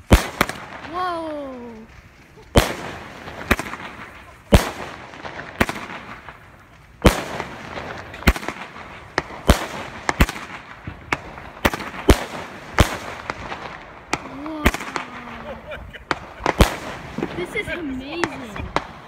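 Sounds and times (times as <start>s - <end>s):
firework bangs: 0.0s - 19.0s.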